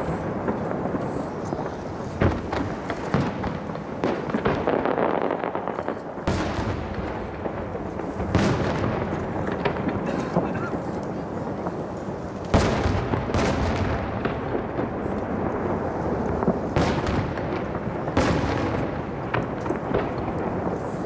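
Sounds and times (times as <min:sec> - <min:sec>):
firework shells booming: 0:00.0 - 0:21.0.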